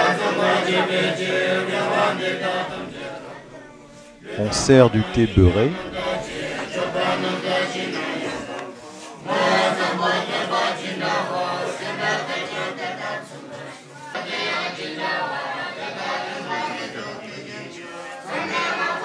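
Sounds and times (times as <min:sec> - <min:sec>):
monks chanting together: 0:00.0 - 0:19.0.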